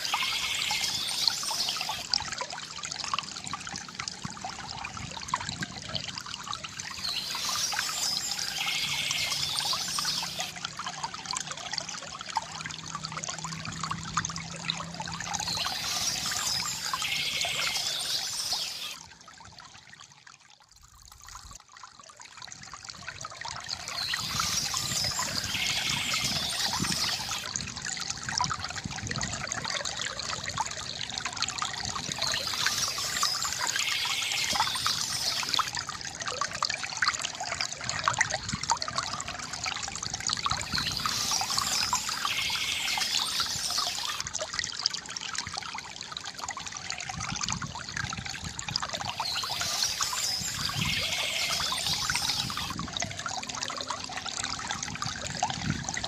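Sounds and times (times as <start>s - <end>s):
stream water trickling: 0.0s - 56.0s.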